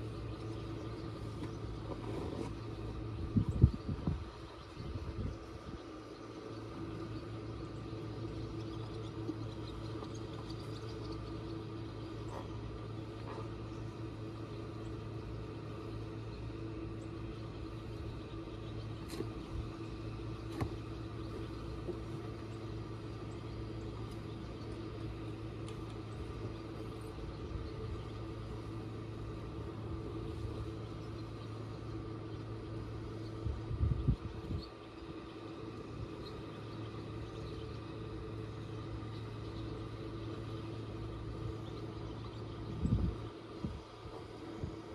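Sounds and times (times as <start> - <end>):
boat engine running steadily: 0.0 - 44.9.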